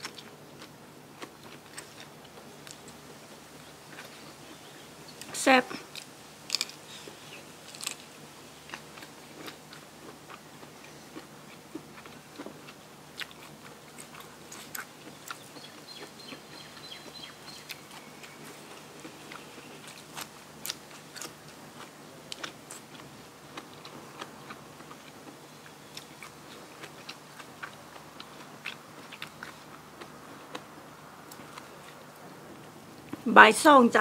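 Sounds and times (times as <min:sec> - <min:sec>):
close chewing with crisp crunches: 0:00.0 - 0:33.3.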